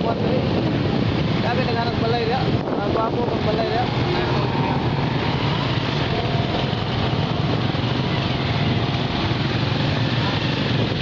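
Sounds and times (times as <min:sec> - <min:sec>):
motorcycle engine running: 0:00.0 - 0:11.0
street traffic: 0:00.0 - 0:11.0
wind on microphone: 0:00.0 - 0:11.0.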